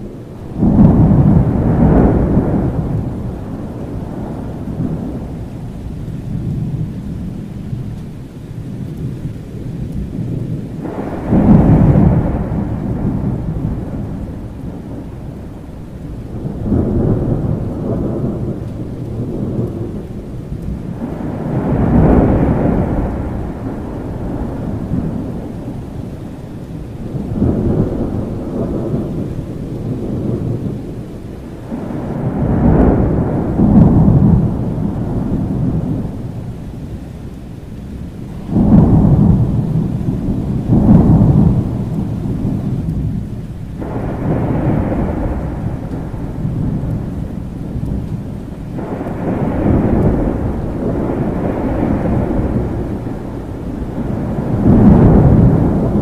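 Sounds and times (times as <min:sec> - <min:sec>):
rain falling: 0:00.0 - 0:56.0
rolling thunder: 0:00.0 - 0:56.0.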